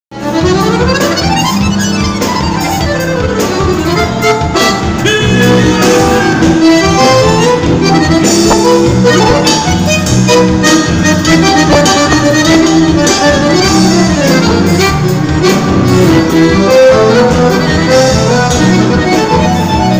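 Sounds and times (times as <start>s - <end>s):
accordion dance tune: 0.1s - 19.9s
bass line and beat: 2.8s - 19.9s.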